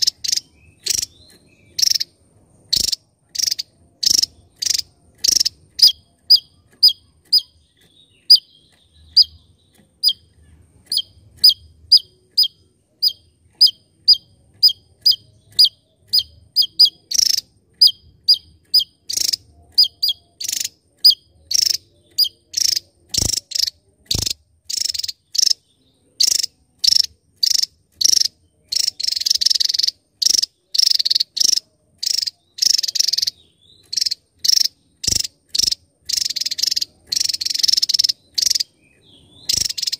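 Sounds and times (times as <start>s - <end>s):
bird singing sharp high notes: 0.0s - 39.9s.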